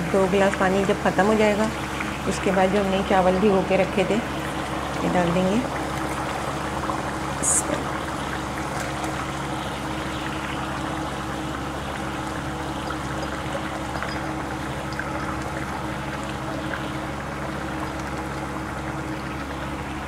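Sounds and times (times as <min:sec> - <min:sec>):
broth bubbling in a pot: 0:00.0 - 0:20.0.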